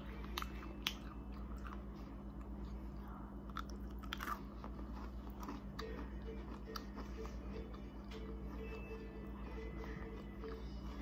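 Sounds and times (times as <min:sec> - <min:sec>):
chewing crunchy candy: 0:00.0 - 0:11.0
steady low hum: 0:00.0 - 0:11.0.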